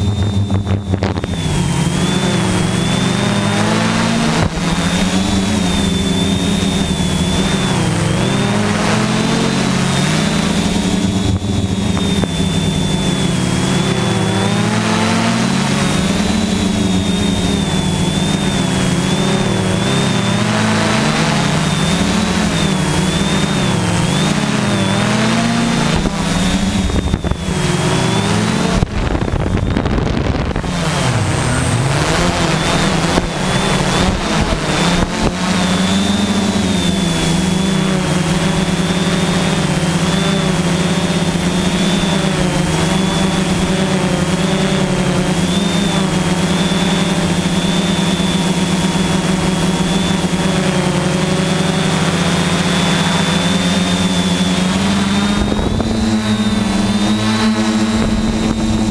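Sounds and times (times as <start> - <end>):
drone propellers humming: 0.0 - 58.9.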